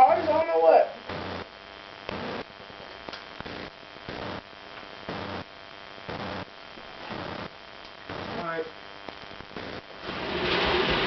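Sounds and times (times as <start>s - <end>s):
electrical hum: 0.0s - 11.0s
static hiss: 0.0s - 11.0s.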